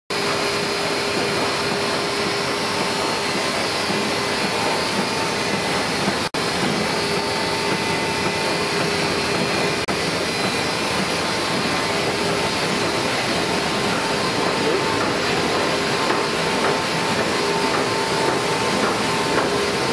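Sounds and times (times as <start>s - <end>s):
printing press whirring: 0.1s - 19.9s.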